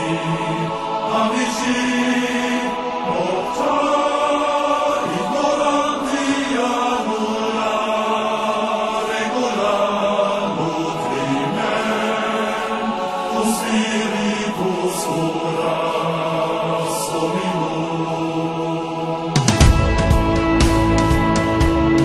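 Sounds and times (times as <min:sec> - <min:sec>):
slow chanting voices: 0:00.0 - 0:22.0.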